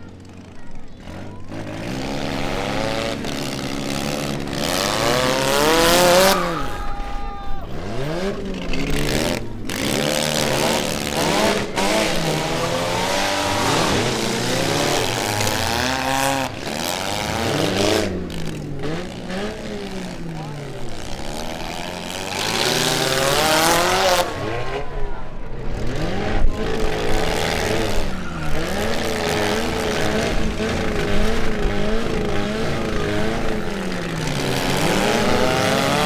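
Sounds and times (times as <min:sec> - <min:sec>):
car engines revving hard: 0:00.0 - 0:36.0.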